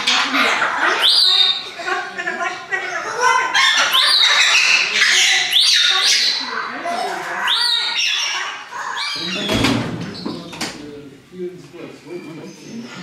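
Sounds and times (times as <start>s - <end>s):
parrots screeching: 0.0s - 10.4s.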